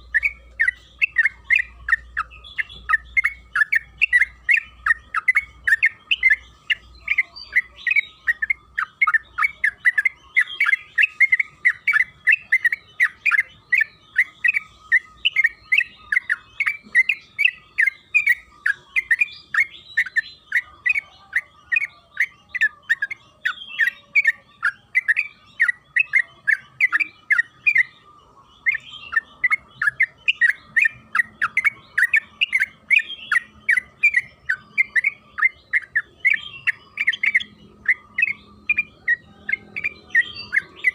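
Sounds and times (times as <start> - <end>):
bulbul singing chattering notes: 0.0 - 40.9.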